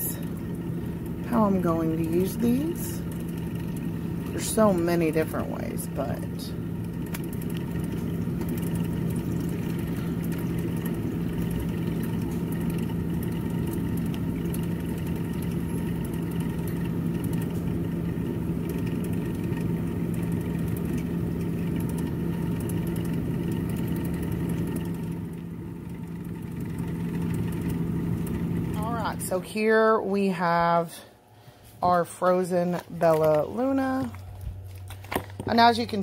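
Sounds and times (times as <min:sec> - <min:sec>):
appliance motor humming: 0:00.0 - 0:36.0.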